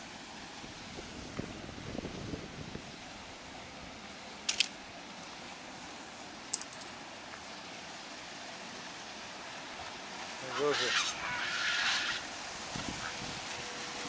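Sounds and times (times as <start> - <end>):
water rushing into river: 0.0 - 14.0.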